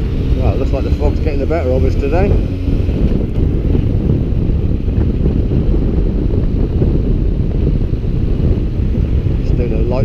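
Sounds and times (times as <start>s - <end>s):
motorcycle engine: 0.0s - 10.0s
road noise: 0.0s - 10.0s
wind buffeting microphone: 0.0s - 10.0s.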